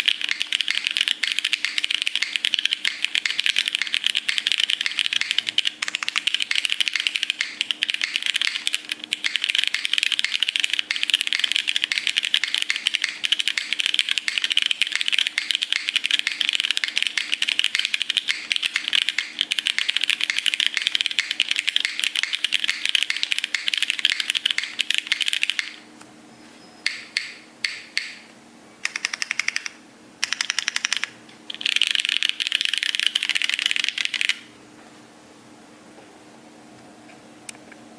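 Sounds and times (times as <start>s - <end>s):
fast keyboard typing clicks: 0.0s - 25.8s, 26.9s - 34.5s.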